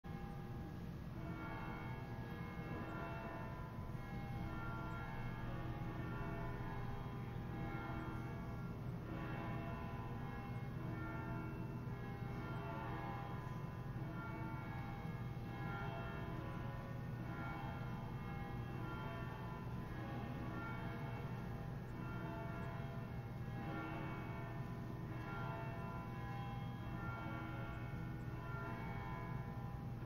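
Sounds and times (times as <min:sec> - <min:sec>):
bells ringing: 0:00.1 - 0:30.0.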